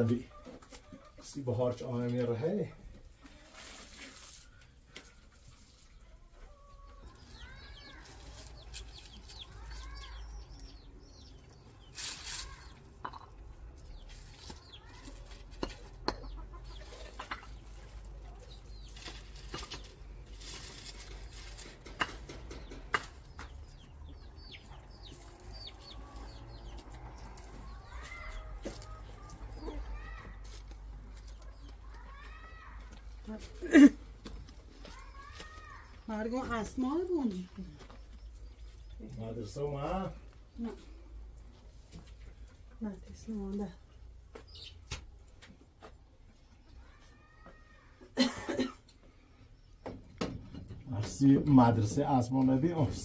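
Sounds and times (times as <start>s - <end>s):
birds calling: 6.5s - 53.0s.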